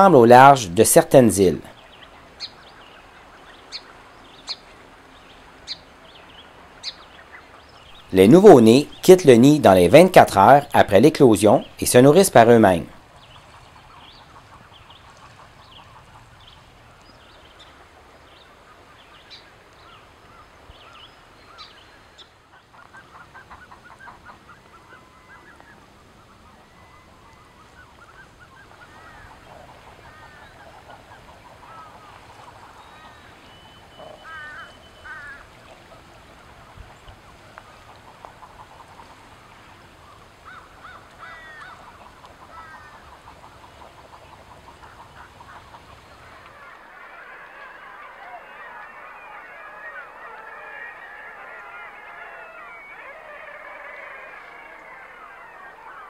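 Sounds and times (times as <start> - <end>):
ducks calling faintly: 0.0 - 56.0.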